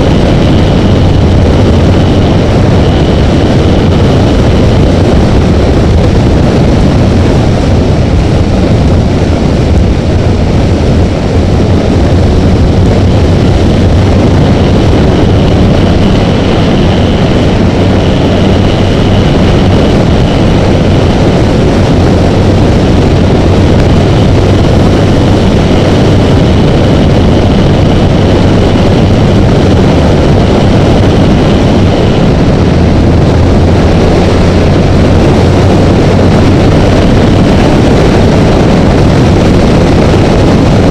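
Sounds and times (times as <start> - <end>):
motorcycle engine drone: 0.0 - 40.9
wind noise on camera: 0.0 - 40.9.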